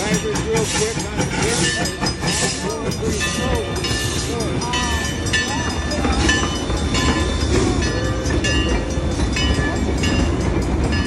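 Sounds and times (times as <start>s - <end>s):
crossing warning bell ringing: 0.0s - 11.0s
steam train rumbling over rails: 0.0s - 11.0s.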